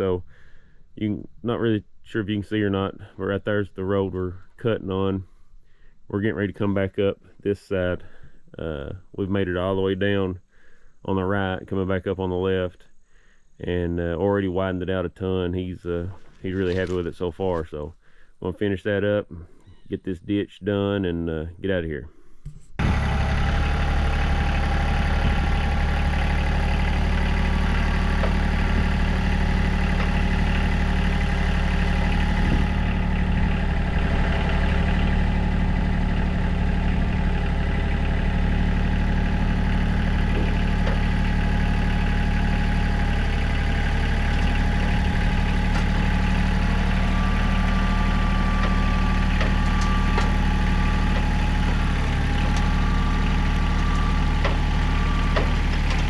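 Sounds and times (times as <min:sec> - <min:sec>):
diesel engine running steadily: 0:00.0 - 0:11.4, 0:22.2 - 0:56.0.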